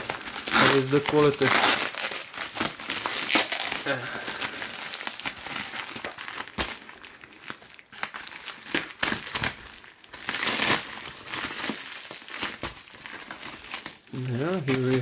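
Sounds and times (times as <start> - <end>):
plastic mailer crinkling: 0.0 - 15.0.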